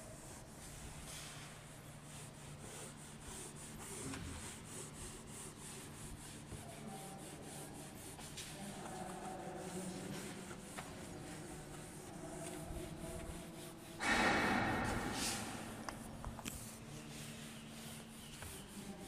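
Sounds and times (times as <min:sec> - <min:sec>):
duster rubbing on whiteboard: 0:00.0 - 0:19.0.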